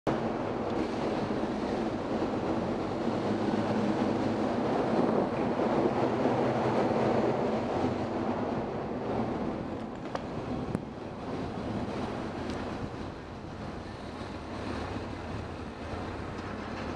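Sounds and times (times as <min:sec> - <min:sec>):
wind rumble on microphone: 0:00.1 - 0:16.9.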